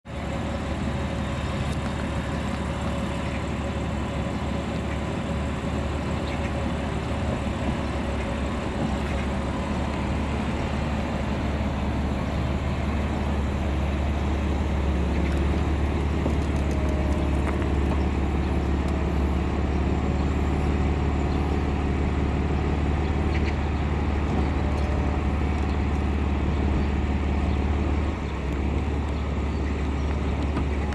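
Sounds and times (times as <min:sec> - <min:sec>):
hydraulic pump motor hum: 0:00.1 - 0:30.9.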